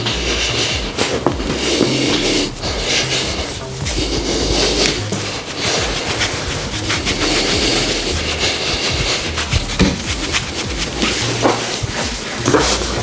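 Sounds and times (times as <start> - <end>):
busy clicking beat: 0.0 - 13.0
low bass line: 0.0 - 13.0.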